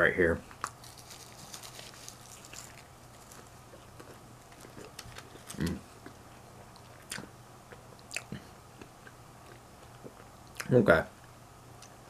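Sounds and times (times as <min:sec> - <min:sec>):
person chewing crunchy food: 0:00.4 - 0:10.7.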